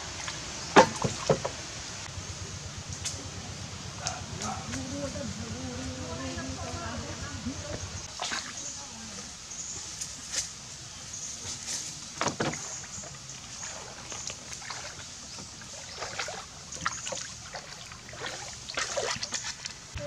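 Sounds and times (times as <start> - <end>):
water sloshing and splashing: 0.0 - 1.9, 4.1 - 10.7, 11.4 - 20.0.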